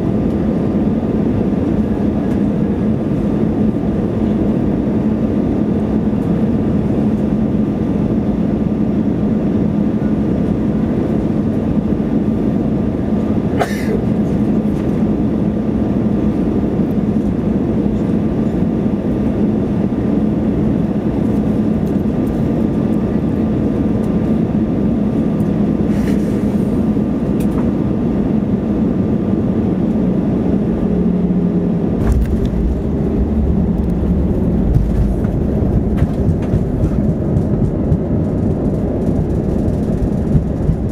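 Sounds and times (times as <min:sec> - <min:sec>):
aircraft cabin engine noise: 0:00.0 - 0:40.9
wheels rumbling on runway: 0:00.0 - 0:40.9.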